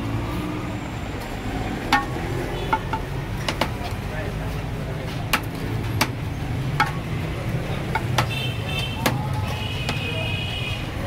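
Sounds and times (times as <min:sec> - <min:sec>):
low street hum: 0:00.0 - 0:11.0.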